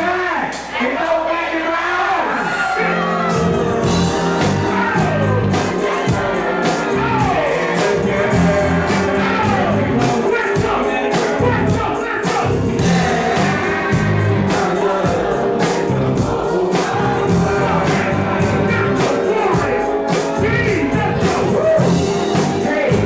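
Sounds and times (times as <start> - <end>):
person singing: 2.5 - 23.0
bass: 3.2 - 14.7, 15.5 - 23.0
drum beat: 3.5 - 23.0.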